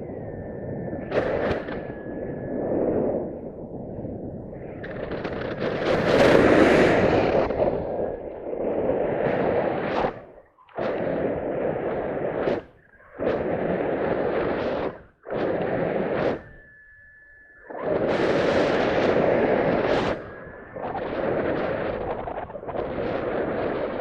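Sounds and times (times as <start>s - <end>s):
wind buffeting microphone: 0.0s - 16.7s, 17.7s - 24.0s.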